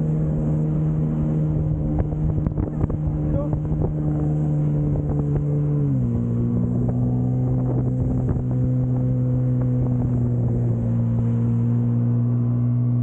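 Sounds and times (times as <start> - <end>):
wind buffeting microphone: 0.0 - 12.5
jet ski engine running: 0.0 - 13.0.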